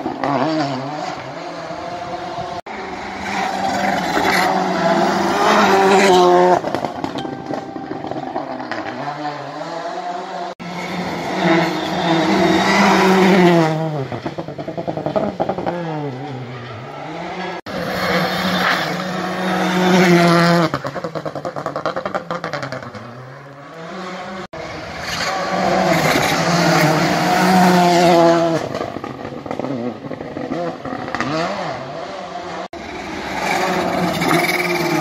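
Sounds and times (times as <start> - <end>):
rally cars passing at speed: 0.0 - 7.2, 7.8 - 35.0.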